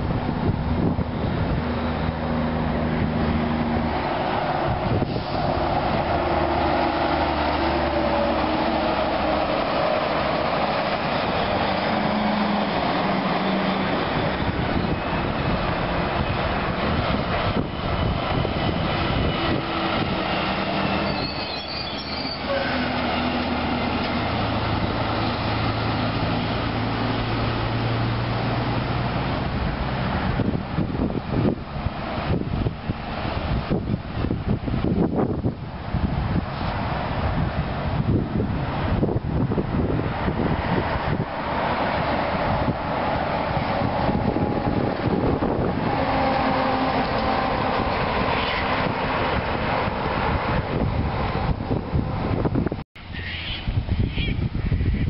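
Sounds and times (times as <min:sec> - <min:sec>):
truck diesel engine under load: 0:00.0 - 0:52.9
tyres and trailers rumbling: 0:00.0 - 0:55.0.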